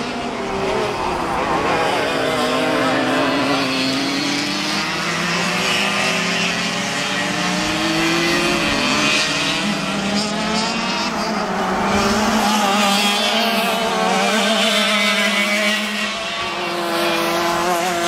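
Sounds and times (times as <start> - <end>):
go-kart engines revving: 0.0 - 18.0.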